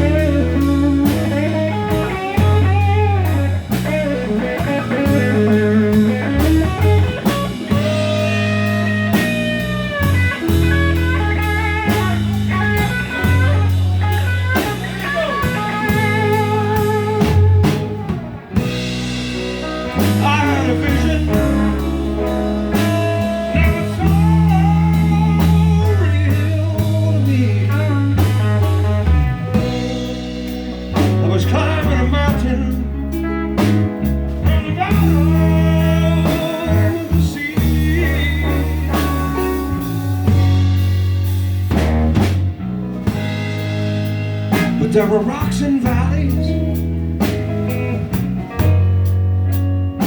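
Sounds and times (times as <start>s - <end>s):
bass guitar: 0.0s - 50.0s
drum kit steady beat: 0.0s - 50.0s
electric guitar solo: 0.0s - 50.0s.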